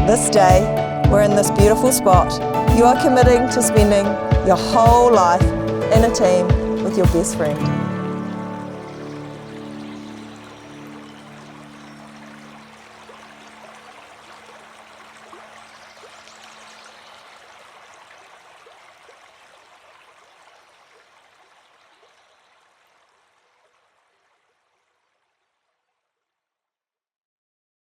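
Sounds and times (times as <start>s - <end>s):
stream water flowing: 0.0s - 25.4s.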